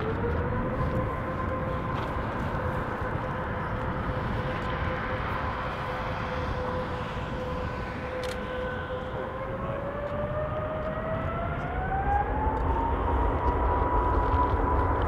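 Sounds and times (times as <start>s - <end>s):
jet engines roaring at takeoff: 0.0s - 15.0s.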